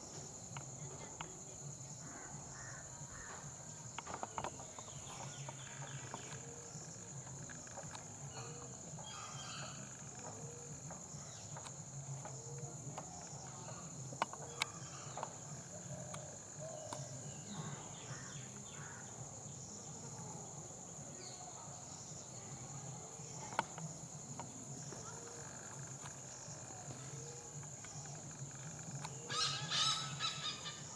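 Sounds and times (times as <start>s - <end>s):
high-pitched insect drone: 0.0s - 20.4s, 21.2s - 30.9s.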